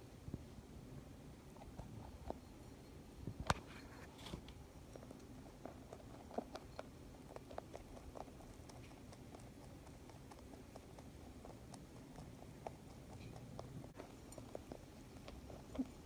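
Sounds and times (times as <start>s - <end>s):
rabbit crunching food pellets: 0.0s - 16.0s.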